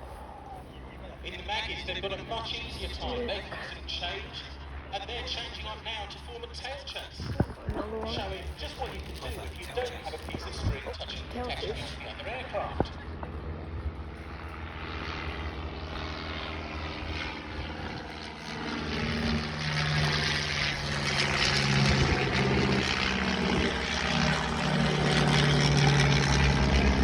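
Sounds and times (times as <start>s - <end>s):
propeller aircraft flying past: 0.0s - 27.0s.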